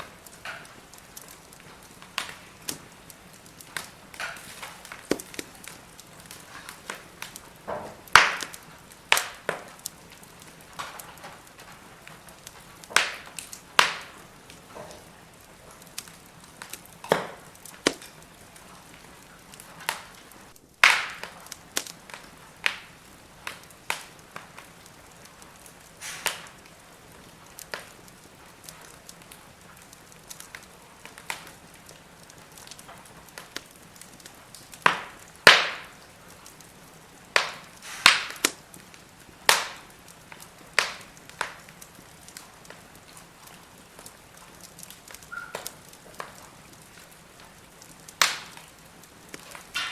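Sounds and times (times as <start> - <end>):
faint steady hiss: 0.0 - 49.9
firewood crackling: 0.0 - 49.9.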